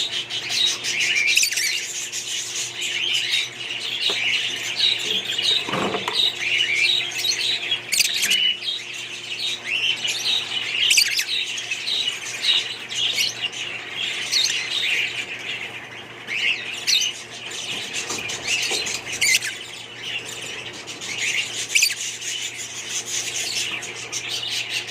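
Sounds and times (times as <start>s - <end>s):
budgerigars chirping and squawking: 0.0s - 24.9s.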